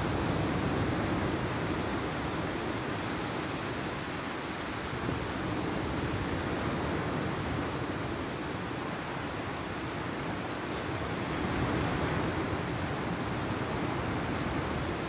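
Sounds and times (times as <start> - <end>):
sea surf rushing: 0.0 - 15.0
wind: 0.0 - 15.0.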